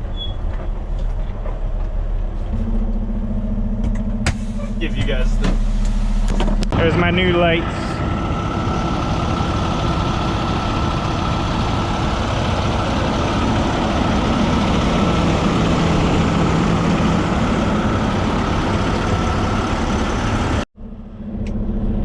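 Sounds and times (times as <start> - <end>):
diesel truck engine idling: 0.7 - 21.7.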